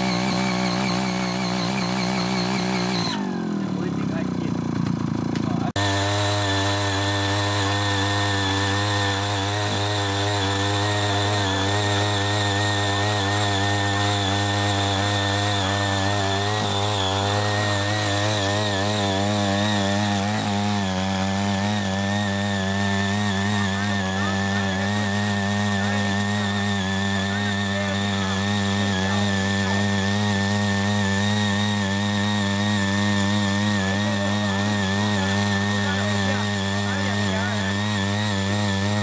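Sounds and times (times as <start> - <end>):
power tiller engine running: 0.0 - 39.0.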